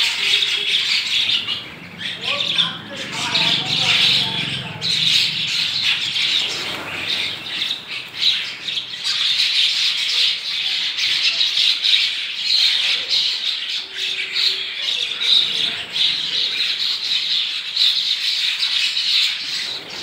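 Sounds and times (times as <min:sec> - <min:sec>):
flock of starlings chattering: 0:00.0 - 0:20.0.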